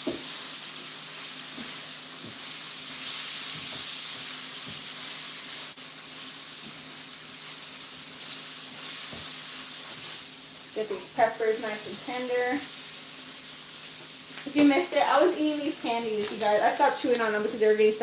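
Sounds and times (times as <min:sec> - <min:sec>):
meat and peppers sizzling on griddle: 0:00.0 - 0:17.6.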